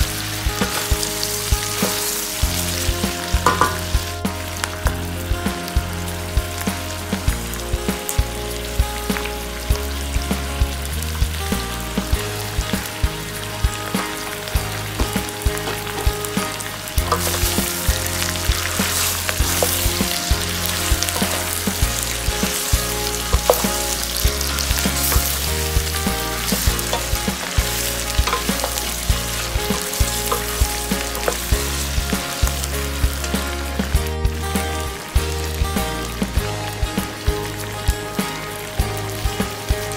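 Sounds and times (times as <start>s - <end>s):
meat sizzling in a pot: 0.0s - 39.9s
soft background music: 0.0s - 39.9s.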